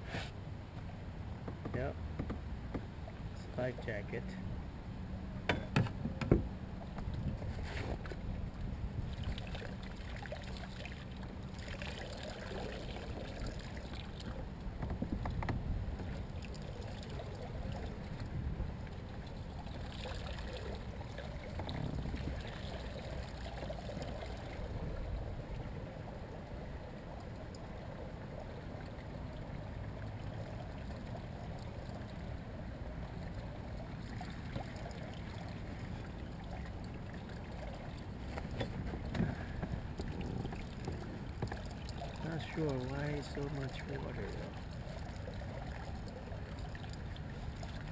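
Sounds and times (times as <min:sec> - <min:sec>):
steady low rumble: 0:00.0 - 0:47.9
water trickling and splashing: 0:06.7 - 0:47.9.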